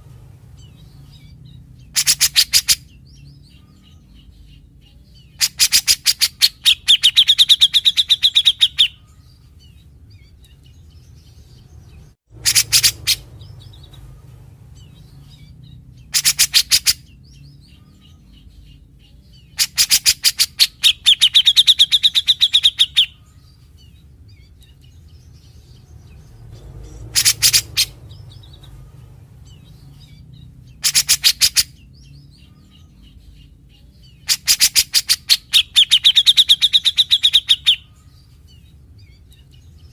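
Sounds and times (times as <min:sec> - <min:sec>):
faint bird chattering: 0:00.6 - 0:39.9.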